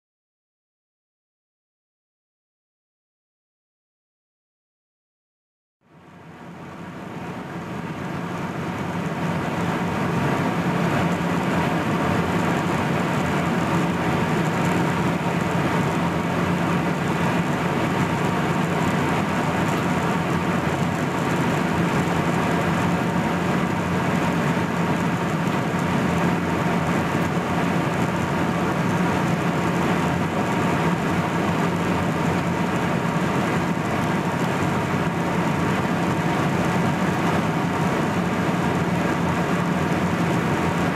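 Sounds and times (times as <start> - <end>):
jet engines humming: 6.5 - 40.9.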